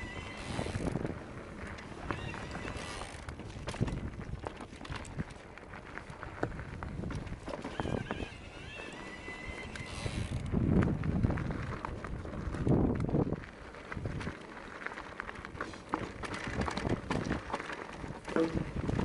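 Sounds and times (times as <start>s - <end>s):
wind buffeting microphone: 0.0s - 14.4s, 16.2s - 19.0s
bike clicks and rattles: 0.0s - 19.0s
tyres crunching over stones: 0.0s - 19.0s.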